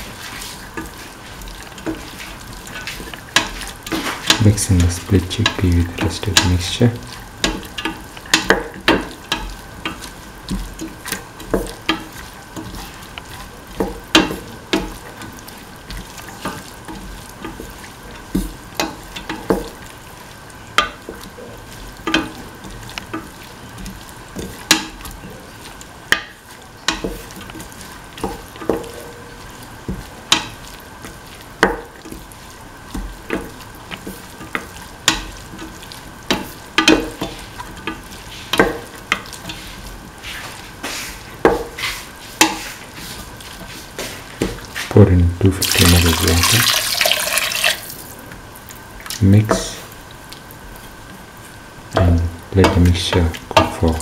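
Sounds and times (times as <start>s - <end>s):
frying sizzle: 0.0s - 54.0s.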